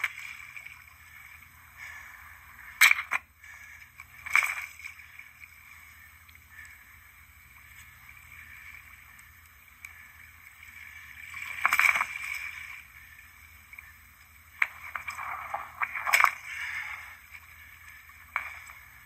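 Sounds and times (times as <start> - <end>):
paddle slapping water: 0.0 - 6.9, 7.6 - 13.6, 14.6 - 19.0
water splashing and sloshing: 0.0 - 19.0.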